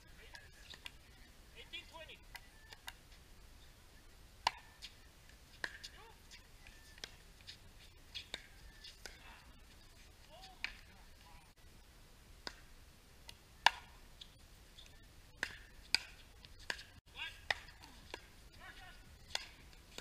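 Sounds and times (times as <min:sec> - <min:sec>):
faint players' voices: 0:00.0 - 0:11.6, 0:13.4 - 0:20.0.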